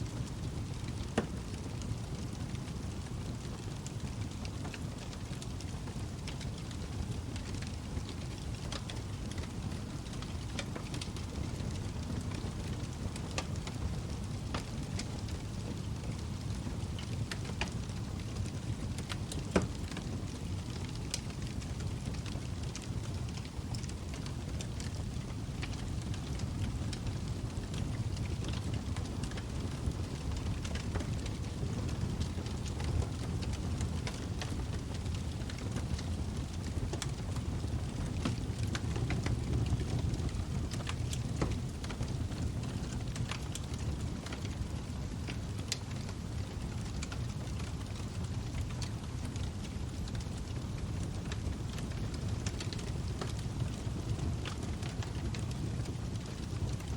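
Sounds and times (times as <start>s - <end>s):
fire crackles and pops: 0.0s - 56.9s
fire rumbling: 0.1s - 56.9s.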